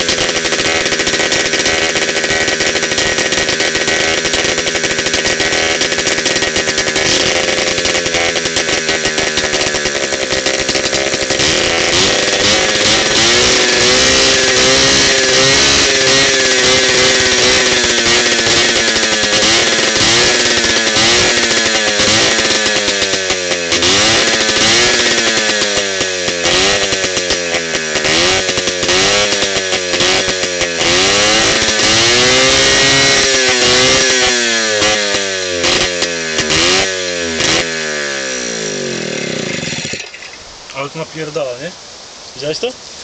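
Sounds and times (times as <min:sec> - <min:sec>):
two-stroke motorcycle engine revving: 0:00.0 - 0:40.4.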